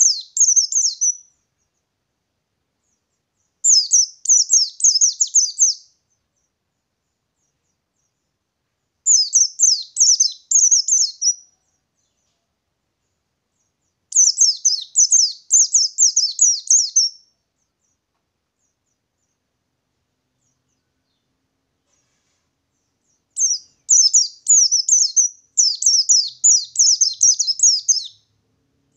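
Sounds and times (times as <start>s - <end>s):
bird singing rolling song: 0.0s - 28.9s.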